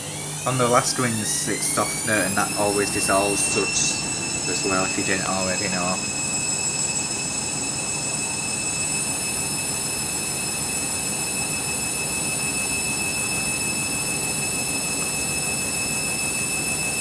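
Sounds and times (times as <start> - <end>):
washing machine rushing and whining: 0.0 - 17.0.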